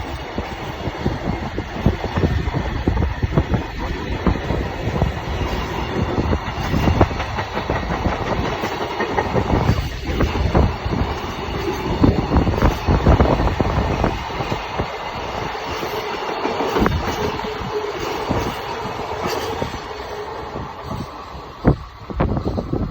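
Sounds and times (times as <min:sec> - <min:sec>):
freight wagons rolling on rails: 0:00.0 - 0:22.9
wheels clacking over rail joints: 0:03.6 - 0:22.0.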